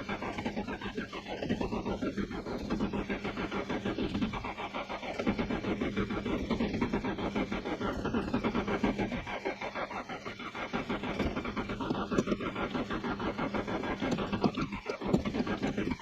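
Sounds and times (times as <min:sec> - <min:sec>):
starter motor cranking engine: 0:00.0 - 0:16.0.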